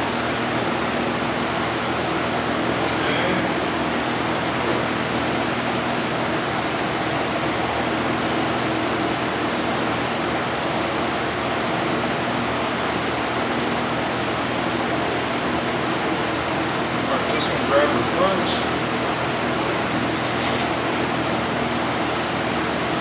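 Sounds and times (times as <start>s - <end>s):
fan blowing air: 0.0s - 23.0s.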